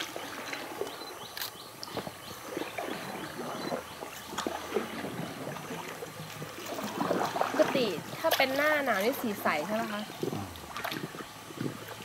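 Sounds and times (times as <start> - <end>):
river water lapping and splashing: 0.0 - 12.0.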